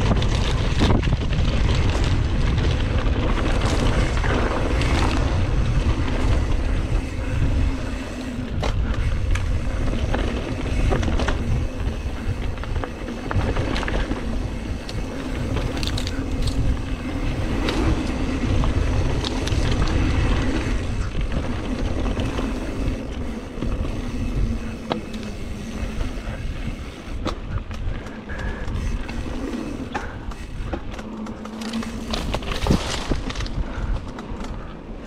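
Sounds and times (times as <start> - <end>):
bike rattling over bumps: 0.0 - 35.0
bike tyres rolling over dirt: 0.0 - 35.0
wind rumble on microphone: 0.0 - 35.0.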